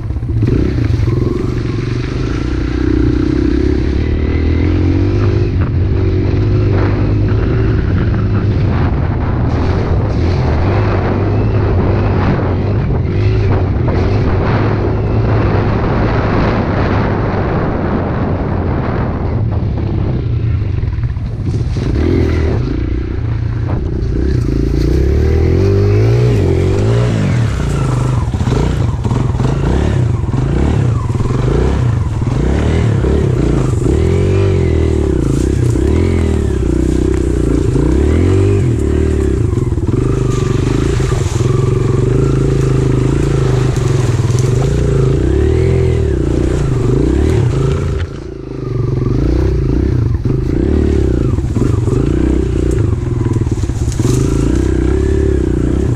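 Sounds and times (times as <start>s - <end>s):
pit bike engine revving: 0.0s - 55.9s.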